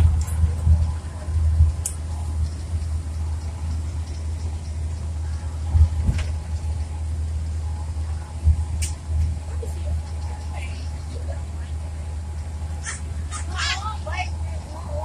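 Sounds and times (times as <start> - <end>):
road and engine rumble in vehicle: 0.0 - 15.0.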